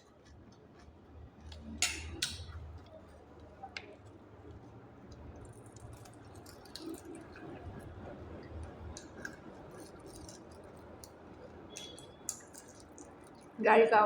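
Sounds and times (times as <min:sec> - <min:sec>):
chewing food: 0:00.0 - 0:13.6.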